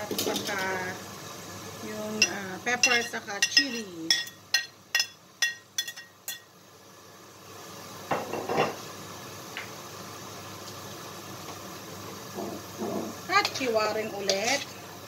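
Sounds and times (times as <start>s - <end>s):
pressure cooker hissing: 0.0s - 15.0s.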